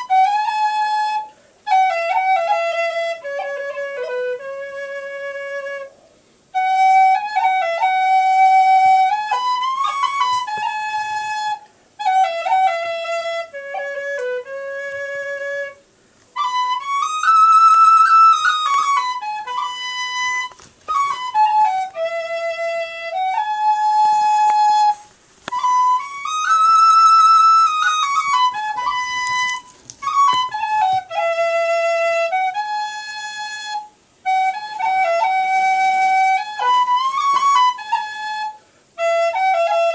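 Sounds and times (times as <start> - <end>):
tin whistle slow melody: 0.0 - 6.0, 6.6 - 15.8, 16.4 - 39.9.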